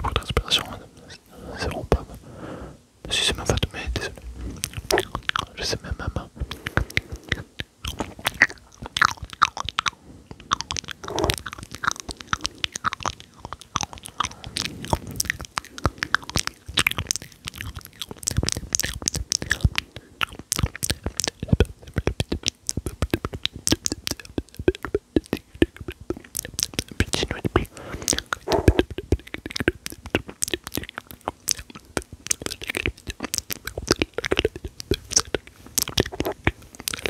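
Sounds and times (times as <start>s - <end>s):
wet mouth clicks and smacks: 3.5s - 5.6s, 6.4s - 37.0s.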